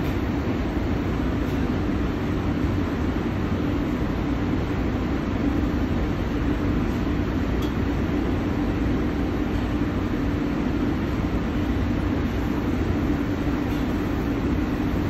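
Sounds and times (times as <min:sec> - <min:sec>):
machine drone with low hum: 0:00.0 - 0:15.0.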